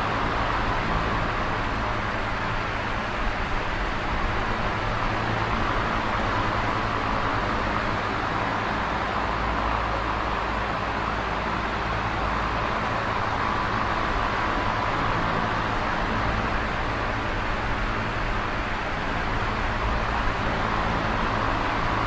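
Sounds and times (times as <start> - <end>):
electric fan air rush: 0.0 - 22.0.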